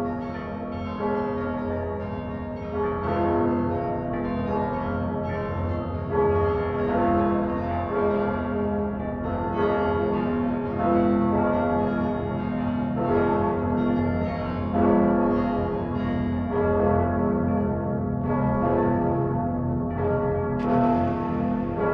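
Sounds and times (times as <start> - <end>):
church bells ringing: 0.0 - 21.9.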